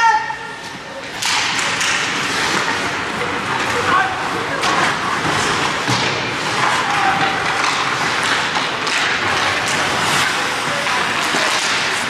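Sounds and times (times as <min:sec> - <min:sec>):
hockey sticks and puck clacking: 0:00.0 - 0:12.0
skates scraping ice: 0:00.1 - 0:12.0.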